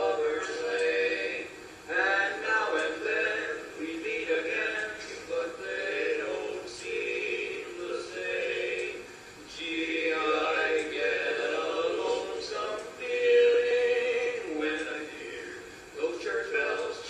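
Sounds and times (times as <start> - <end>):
men singing a cappella harmony: 0.0 - 17.0.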